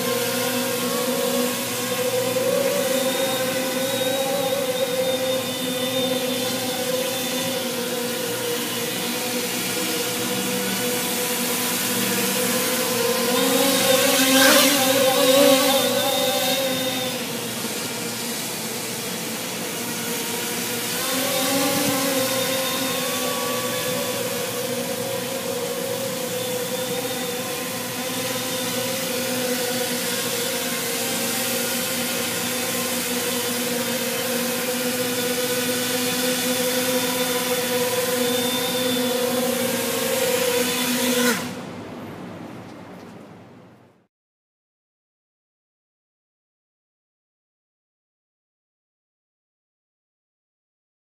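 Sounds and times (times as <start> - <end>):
quadcopter motors whirring: 0.0 - 41.8.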